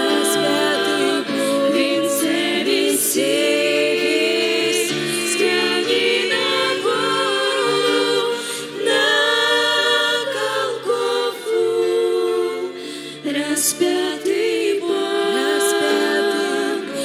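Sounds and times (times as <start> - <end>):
women's choir singing a hymn: 0.0 - 17.0.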